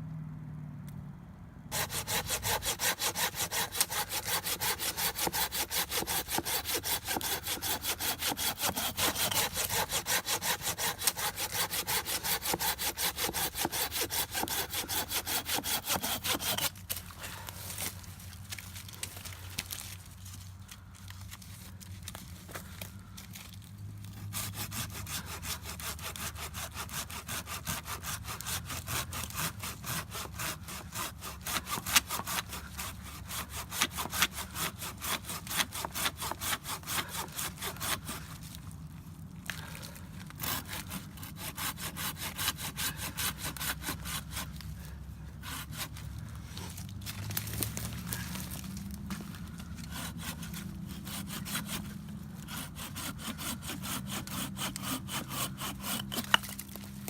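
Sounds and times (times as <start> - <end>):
hand saw cutting wood: 1.7 - 18.0, 24.1 - 38.6, 39.5 - 56.9.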